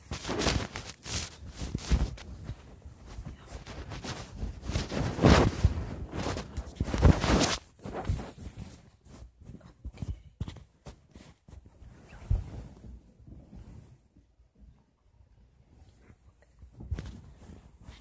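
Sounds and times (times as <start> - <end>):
clothing rubbing on microphone: 0.0 - 14.8, 15.6 - 18.0.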